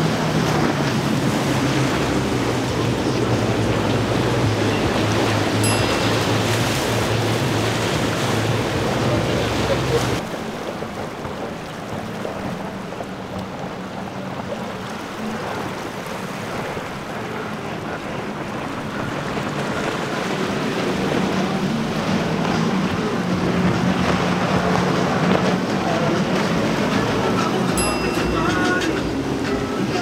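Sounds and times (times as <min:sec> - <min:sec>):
outboard engines running: 0:00.0 - 0:30.0
rushing water and spray: 0:00.0 - 0:30.0.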